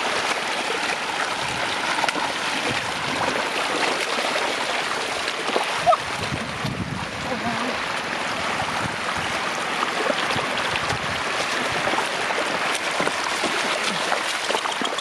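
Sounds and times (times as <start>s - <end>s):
floodwater rushing over road: 0.0s - 15.0s
small water splashes: 0.0s - 15.0s.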